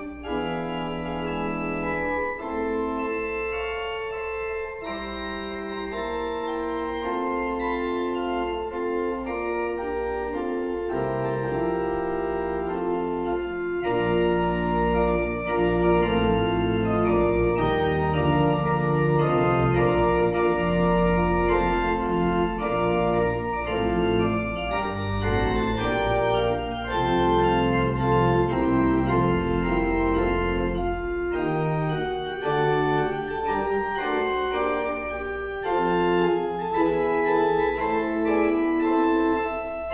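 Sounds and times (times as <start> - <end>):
deep organ pedal bass notes: 0.0 - 39.9
pipe organ chords: 0.0 - 39.9.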